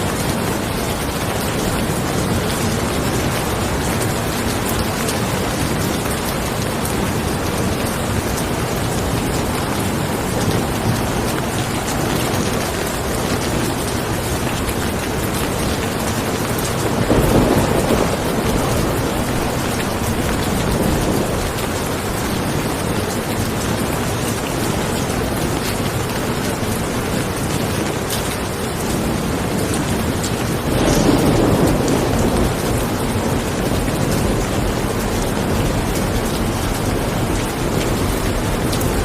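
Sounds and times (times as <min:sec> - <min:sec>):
low rumble of thunder: 0:00.0 - 0:23.6, 0:28.8 - 0:39.0
heavy rain falling: 0:00.0 - 0:39.0.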